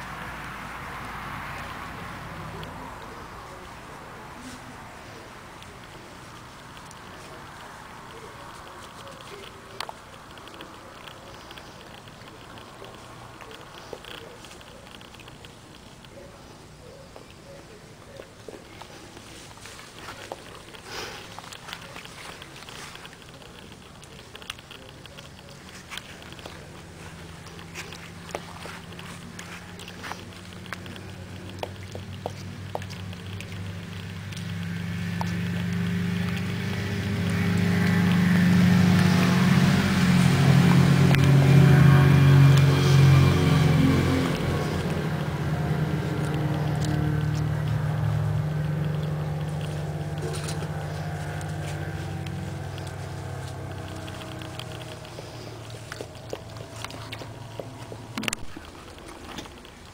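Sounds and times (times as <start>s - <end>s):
motor engine humming: 0.0s - 59.9s
puppy lapping water: 0.0s - 59.9s.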